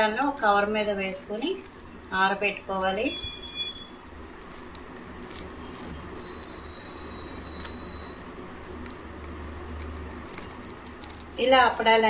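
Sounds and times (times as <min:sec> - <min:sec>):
low room hum: 0:00.0 - 0:12.0
plastic sheet crinkling: 0:00.0 - 0:12.0.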